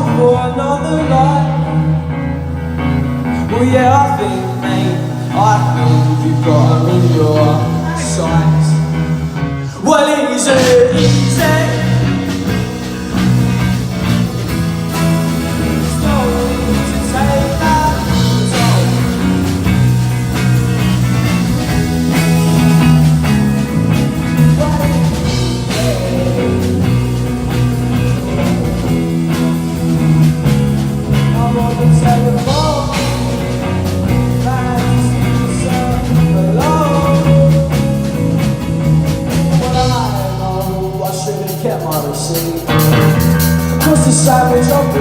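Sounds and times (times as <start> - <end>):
guitar line with pitch bends: 0.0 - 45.0
rock band playing: 0.0 - 45.0.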